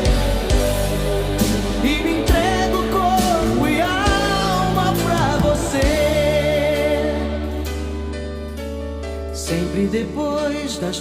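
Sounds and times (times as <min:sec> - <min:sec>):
band accompaniment: 0:00.0 - 0:11.0.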